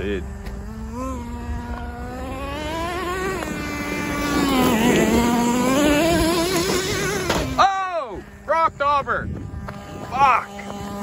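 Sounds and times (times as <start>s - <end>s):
rc truck engine revving: 0.0s - 11.0s
tires on gravel: 0.0s - 11.0s.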